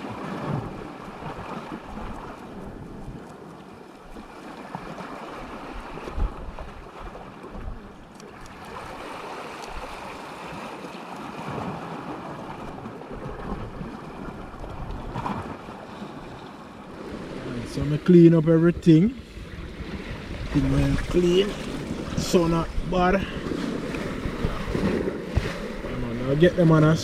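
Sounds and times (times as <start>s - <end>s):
wind buffeting microphone: 0.0s - 10.7s, 11.3s - 27.0s
sea waves washing: 0.0s - 27.0s.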